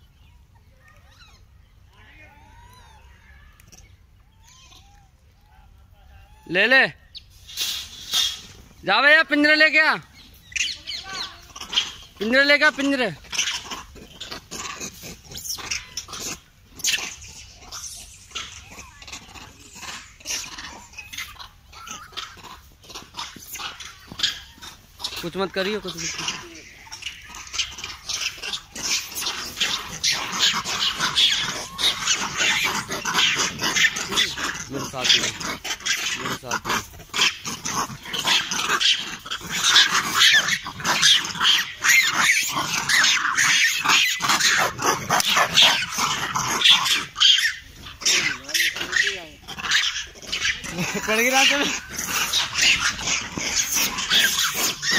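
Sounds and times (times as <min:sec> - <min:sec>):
monkeys calling: 0:00.0 - 0:54.9.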